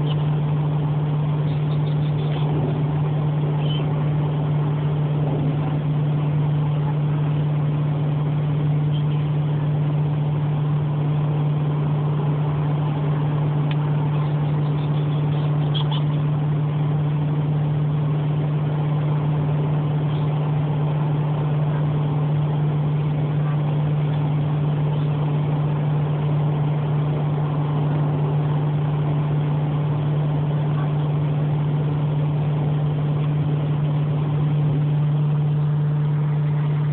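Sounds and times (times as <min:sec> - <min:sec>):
car engine and road noise: 0:00.0 - 0:36.9.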